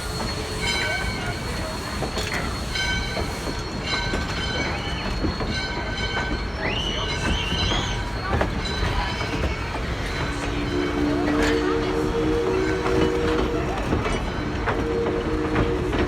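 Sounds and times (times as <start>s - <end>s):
train cars rumbling past: 0.0s - 16.0s
wheels squealing on rails: 0.0s - 16.0s.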